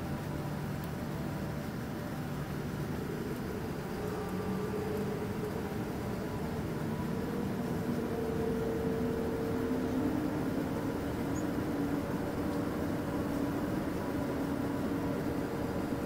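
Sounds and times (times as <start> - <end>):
jet airliner cabin hum: 0.0 - 16.0.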